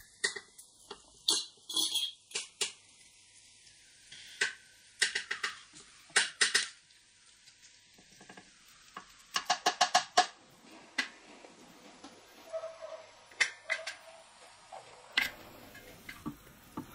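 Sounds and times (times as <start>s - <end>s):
sausage casing squeaking and crackling: 0.0s - 2.9s, 4.0s - 10.4s, 12.3s - 16.9s.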